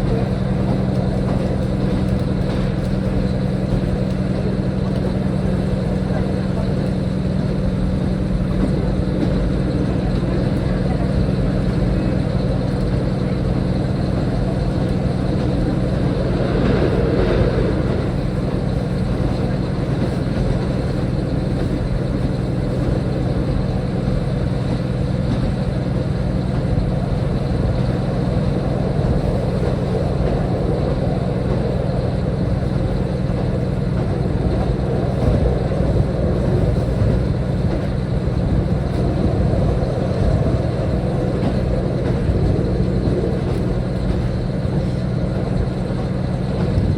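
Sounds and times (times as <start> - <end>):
diesel railcar engine drone: 0.0 - 46.9.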